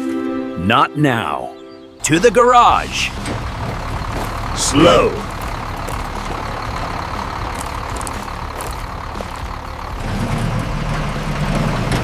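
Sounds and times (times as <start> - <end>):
heavy vehicle engine running: 2.0 - 12.0.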